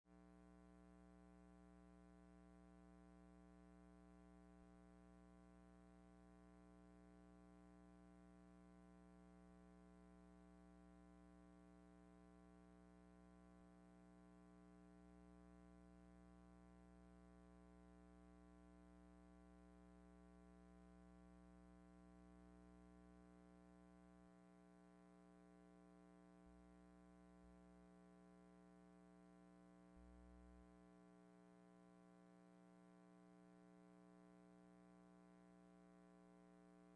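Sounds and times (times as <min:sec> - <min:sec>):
faint steady hum: 0:00.1 - 0:36.9.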